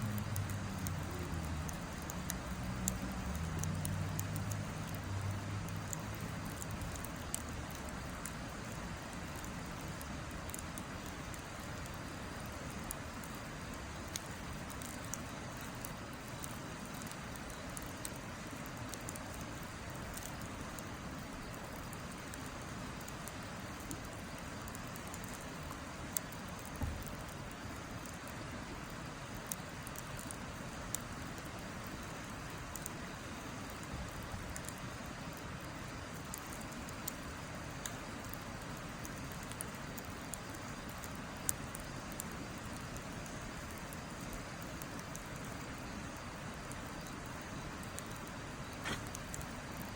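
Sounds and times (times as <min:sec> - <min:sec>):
campfire crackling and popping: 0:00.0 - 0:49.9
steady hiss: 0:00.0 - 0:49.9.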